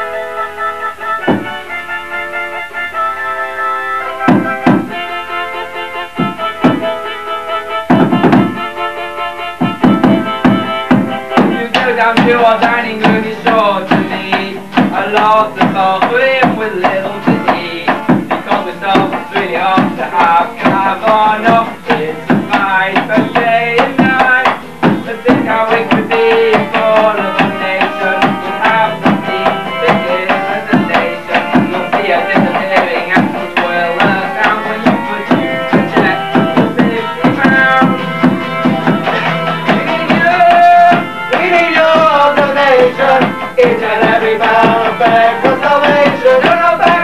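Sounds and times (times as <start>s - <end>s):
drum beat: 1.2s - 1.9s, 4.1s - 8.8s, 9.5s - 47.0s.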